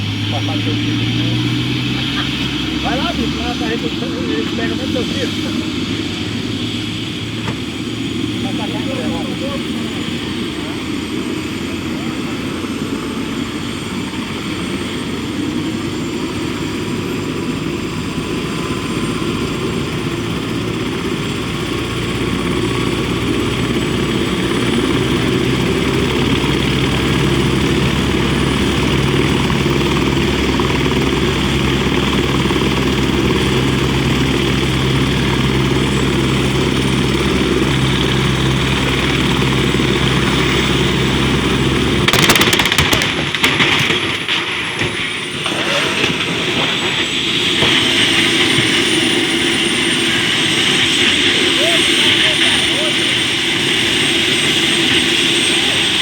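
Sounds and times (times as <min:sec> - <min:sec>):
helicopter engine and rotor hum: 0:00.0 - 0:56.0.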